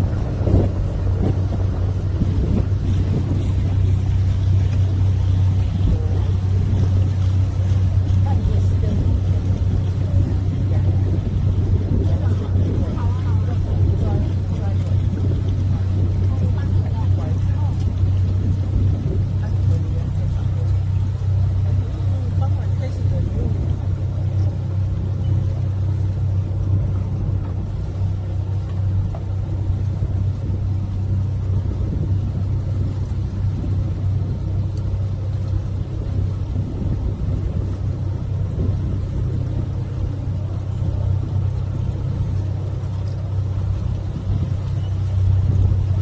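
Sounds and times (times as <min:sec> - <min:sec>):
boat motor droning: 0:00.0 - 0:46.0
faint water wash: 0:00.0 - 0:46.0.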